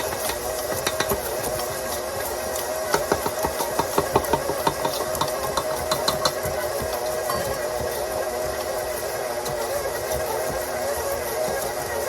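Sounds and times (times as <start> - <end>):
electric mixer running: 0.0 - 12.0.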